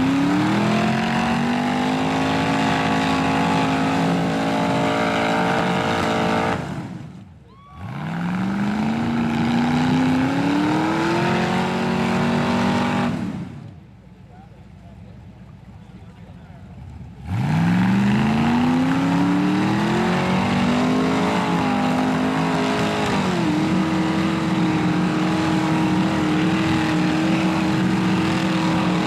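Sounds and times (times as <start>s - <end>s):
engine revving at full throttle: 0.0s - 7.0s, 7.8s - 13.5s, 17.2s - 29.0s.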